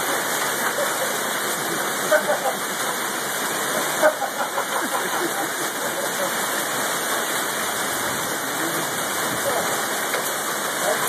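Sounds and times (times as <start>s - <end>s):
heavy rain and hail roaring: 0.0s - 11.0s.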